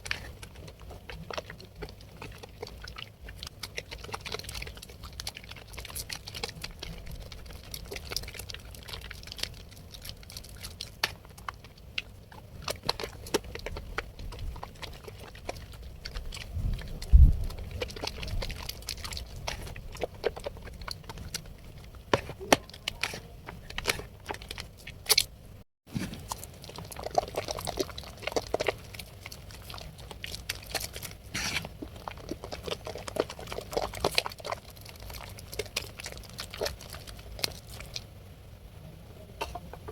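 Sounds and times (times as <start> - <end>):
soap lathering wet squishing: 0.0 - 25.3, 26.1 - 38.1.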